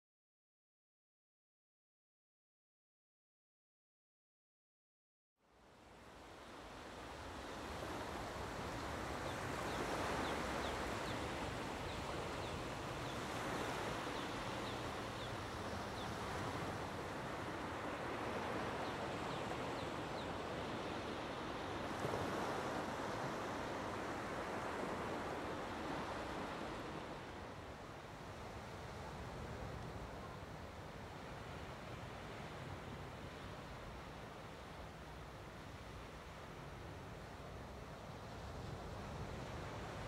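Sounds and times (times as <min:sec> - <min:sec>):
ocean waves washing on shore: 0:05.9 - 0:40.0.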